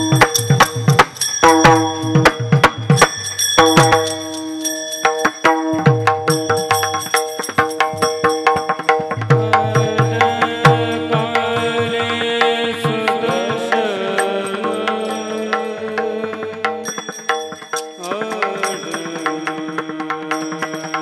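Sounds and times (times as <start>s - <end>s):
ornamented melodic line: 0.0s - 19.8s.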